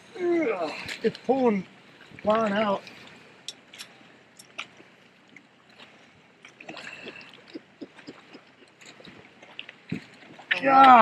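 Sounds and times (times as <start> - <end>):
low water noise: 0.0 - 11.0.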